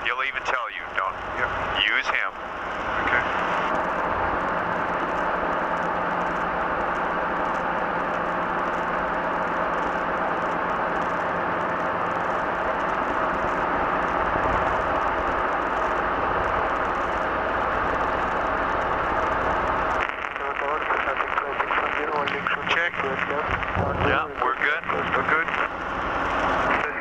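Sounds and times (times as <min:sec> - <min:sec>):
helicopter engine and rotors: 0:00.0 - 0:27.0.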